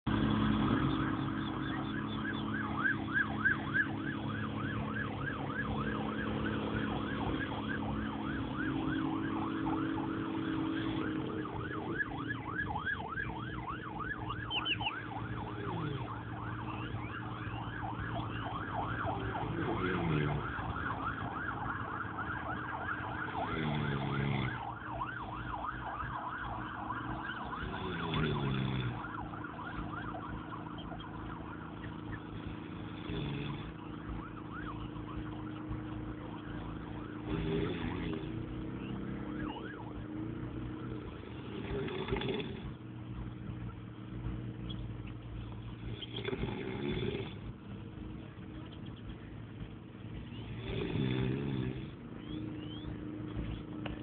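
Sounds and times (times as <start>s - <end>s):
electronic siren yelp: 0.1s - 41.7s, 52.1s - 54.0s
low steady hum: 0.1s - 50.7s.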